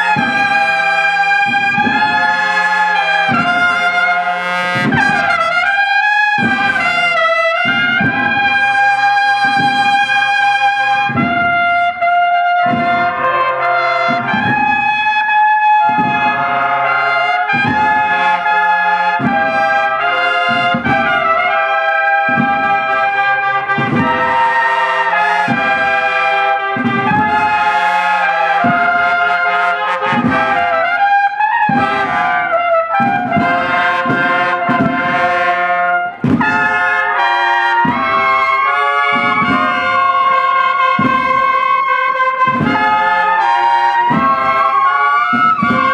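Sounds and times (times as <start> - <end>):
brass band slow march: 0.0 - 45.9
drumbeat: 0.0 - 45.9.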